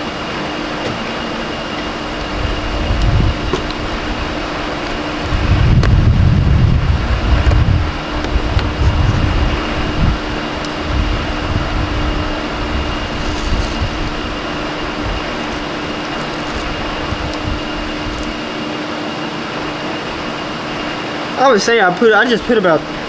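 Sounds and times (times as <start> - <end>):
wind buffeting on microphone: 0.0 - 18.8
mechanical hum with whine: 0.0 - 23.0.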